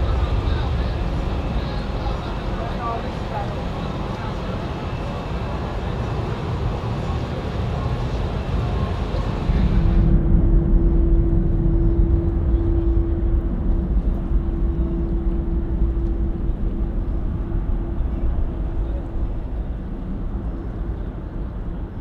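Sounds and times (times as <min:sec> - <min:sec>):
low rumble with steady hum: 0:00.0 - 0:05.6, 0:08.6 - 0:22.0
jet engines running: 0:00.0 - 0:22.0.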